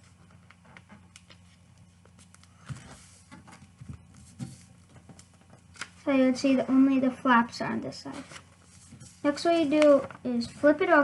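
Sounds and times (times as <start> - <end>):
paper rustling: 0.0 - 6.1, 7.9 - 11.0
soft paper crinkles and taps: 0.1 - 6.0, 7.8 - 10.8.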